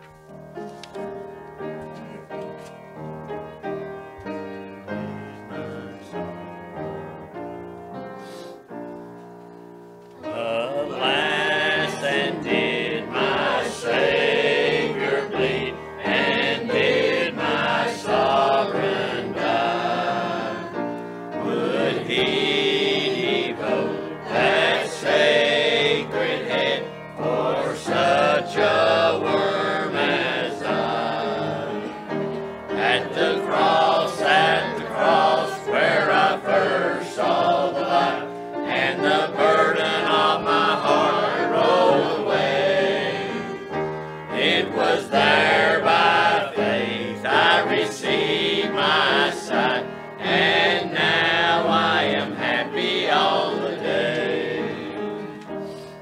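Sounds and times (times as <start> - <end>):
piano chords: 0.0 - 56.0
choir singing a hymn: 3.0 - 8.6, 10.2 - 56.0.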